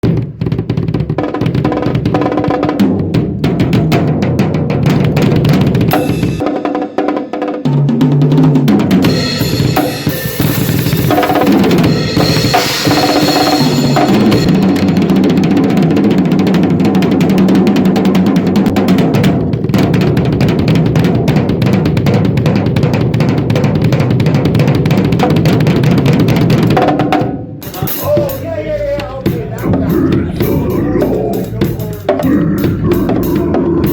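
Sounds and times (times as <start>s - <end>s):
drum kit fills and rolls: 0.0s - 33.9s.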